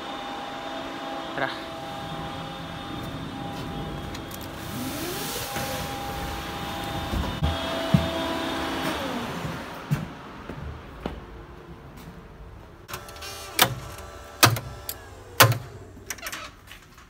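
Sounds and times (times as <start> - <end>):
motor whine: 0.0 - 10.0, 12.9 - 16.8
factory machinery drone: 0.0 - 16.8.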